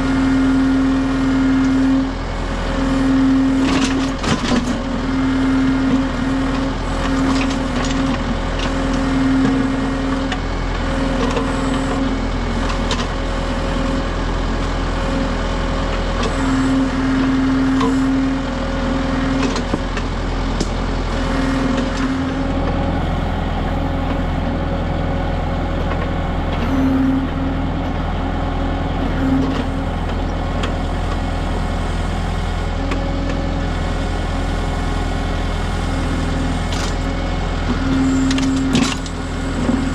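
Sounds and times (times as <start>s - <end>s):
hydraulic whine: 0.0s - 39.9s
tractor diesel engine running: 0.0s - 39.9s.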